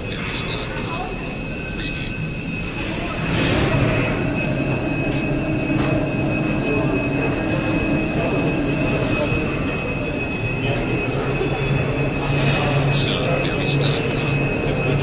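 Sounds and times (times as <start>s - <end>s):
high-pitched whine: 0.0s - 15.0s
machinery rumble: 0.0s - 15.0s.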